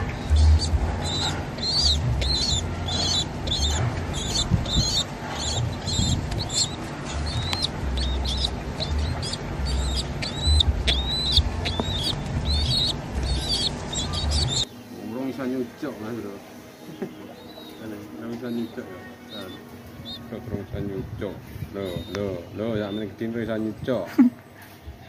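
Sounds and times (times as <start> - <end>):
pigeon squab peeping: 0.0 - 24.8.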